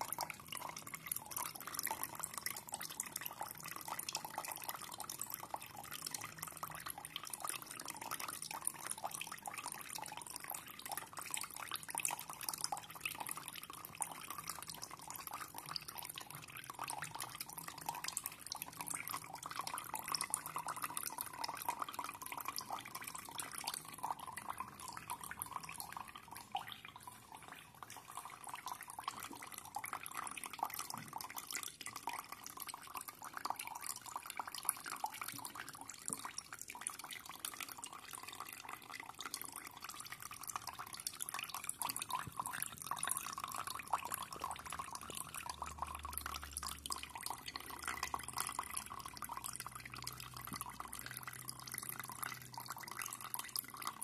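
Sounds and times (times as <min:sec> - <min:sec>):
water trickling into plastic jug: 0:00.0 - 0:54.0.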